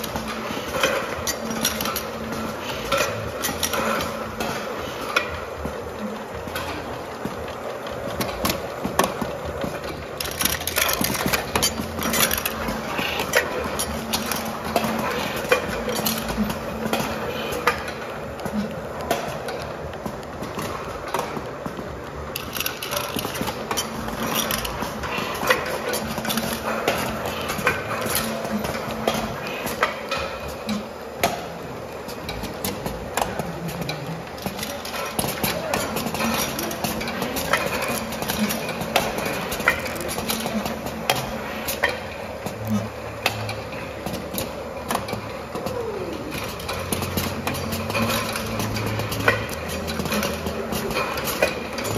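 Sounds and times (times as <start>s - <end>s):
cans clinking on conveyor: 0.0s - 51.9s
machine clicks: 0.0s - 51.9s.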